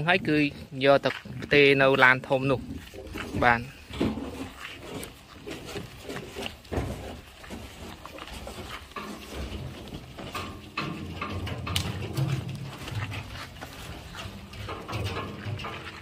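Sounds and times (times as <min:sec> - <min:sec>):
hooves thudding on truck floor: 0:00.8 - 0:16.0.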